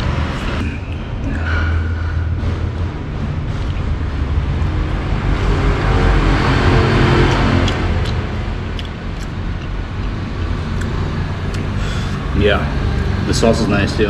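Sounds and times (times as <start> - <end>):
road traffic: 0.0 - 14.0
vehicle passing close by: 1.5 - 14.0.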